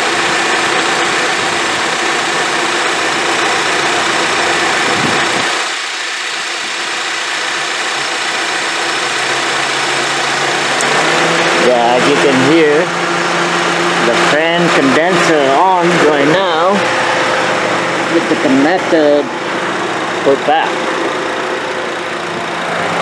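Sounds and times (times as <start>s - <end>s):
car engine idling: 0.0s - 23.0s
condenser fan rushing: 0.0s - 23.0s.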